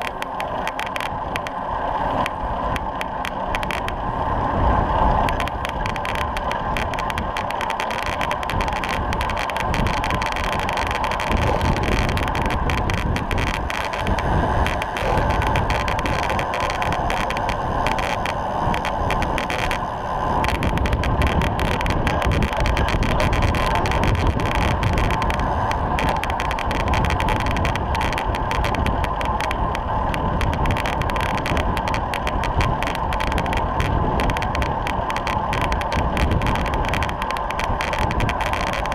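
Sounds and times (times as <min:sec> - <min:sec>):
bicycle tyres and wind rushing: 0:00.0 - 0:38.9.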